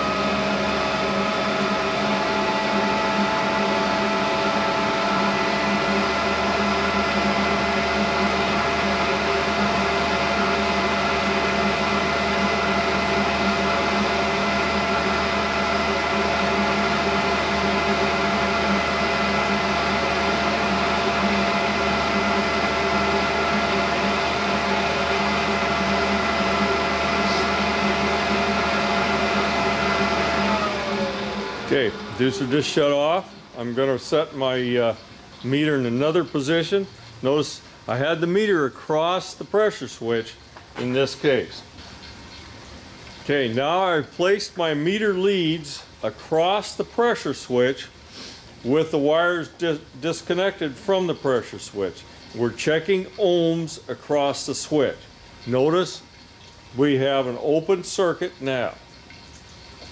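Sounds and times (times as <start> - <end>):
furnace draft motor humming: 0.0 - 59.9.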